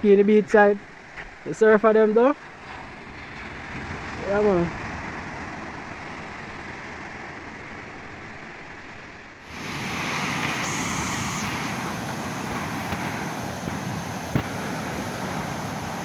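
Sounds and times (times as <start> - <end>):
wind buffeting microphone: 2.4 - 16.0.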